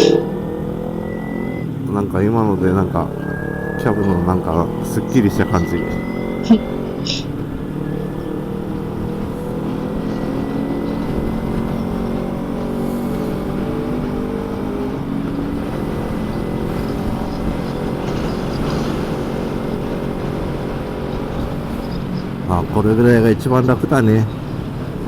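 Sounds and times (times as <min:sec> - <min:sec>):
motorcycle engine running: 0:00.0 - 0:23.3.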